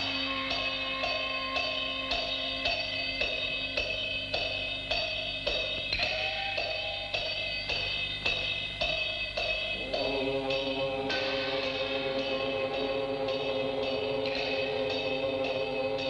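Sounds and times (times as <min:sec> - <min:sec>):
gongs and cymbals struck: 0:00.0 - 0:16.0
higher gong stroke: 0:00.0 - 0:16.0
low gong tone: 0:00.0 - 0:16.0.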